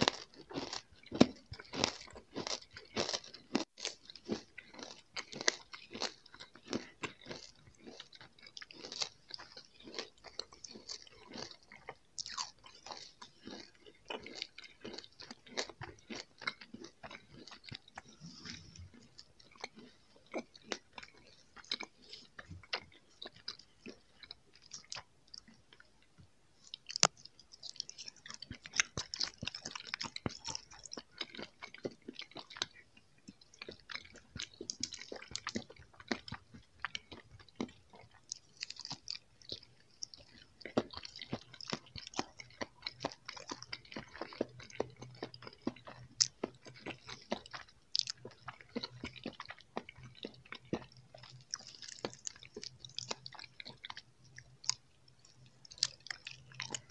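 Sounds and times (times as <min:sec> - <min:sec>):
chewing candy clicks and crackles: 0:00.0 - 0:56.9.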